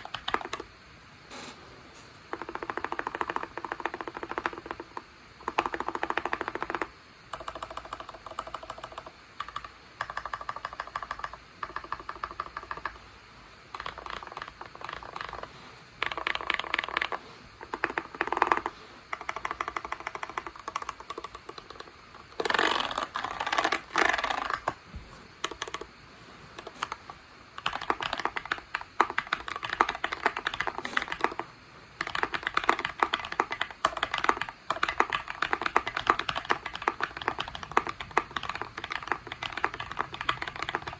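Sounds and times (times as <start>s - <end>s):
mechanical keyboard typing: 0.0s - 0.7s, 2.3s - 13.0s, 13.7s - 24.8s, 25.4s - 25.9s, 26.6s - 40.9s.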